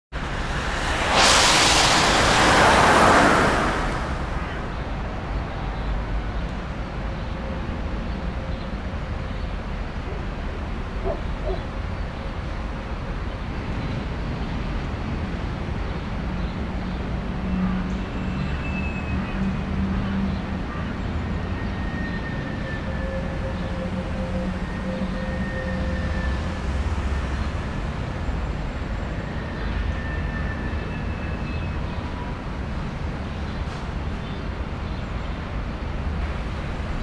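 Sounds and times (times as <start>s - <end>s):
tyres hissing on wet road: 0.1s - 7.1s, 12.9s - 37.0s
background traffic rumble: 0.1s - 18.6s, 19.2s - 37.0s.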